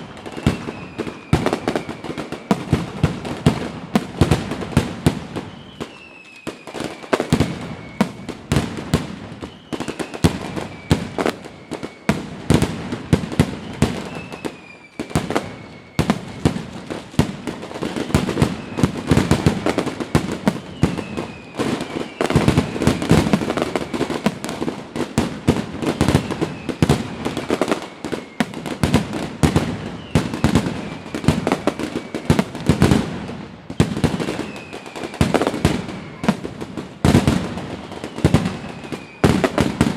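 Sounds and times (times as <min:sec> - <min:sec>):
firework whistle falling in pitch: 0:00.0 - 0:24.7, 0:25.4 - 0:33.0, 0:33.7 - 0:39.9
fireworks bangs and crackling: 0:00.0 - 0:39.9.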